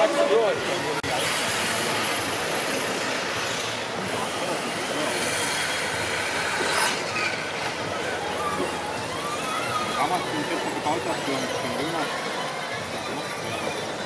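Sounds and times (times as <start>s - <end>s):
toy truck motor whining: 0.0s - 14.0s.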